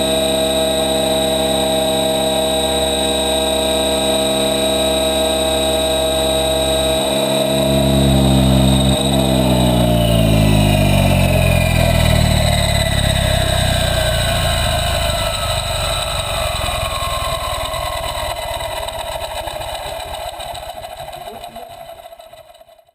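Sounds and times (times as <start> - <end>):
helicopter winding down: 0.0 - 22.9.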